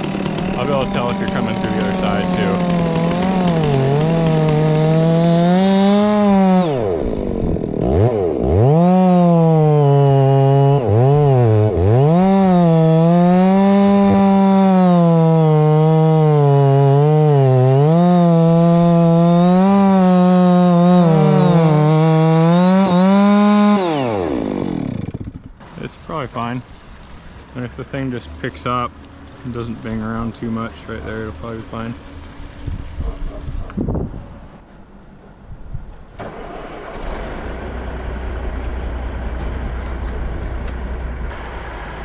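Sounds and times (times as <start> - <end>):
chainsaw cutting tree trunk: 0.0 - 32.8, 40.3 - 42.0.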